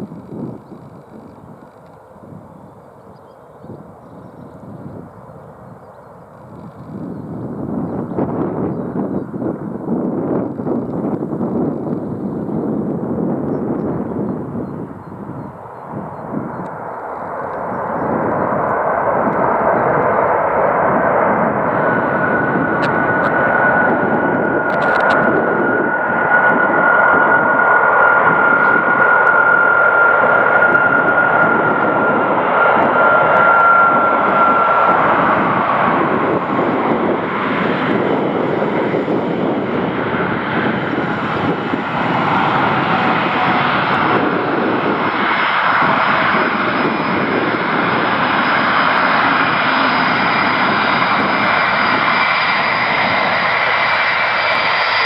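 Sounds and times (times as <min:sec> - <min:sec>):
high jet whine: 0:00.0 - 0:55.0
jet engines rushing: 0:00.0 - 0:55.0.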